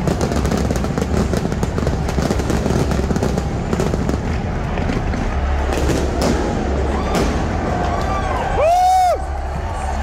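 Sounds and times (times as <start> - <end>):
fireworks crackling and popping: 0.0 - 8.6.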